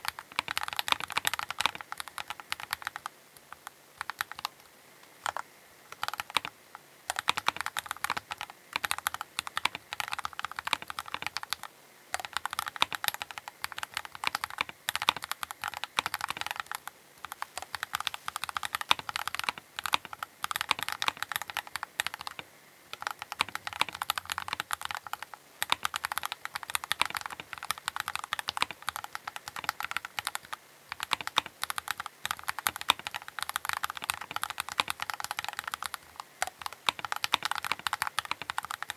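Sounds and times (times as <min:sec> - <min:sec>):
mechanical keyboard typing: 0:00.0 - 0:06.5, 0:07.1 - 0:38.9.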